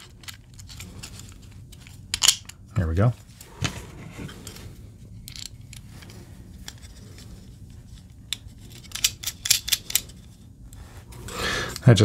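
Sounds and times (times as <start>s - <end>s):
plastic parts clicking and scraping: 0.0s - 2.7s, 3.6s - 10.8s.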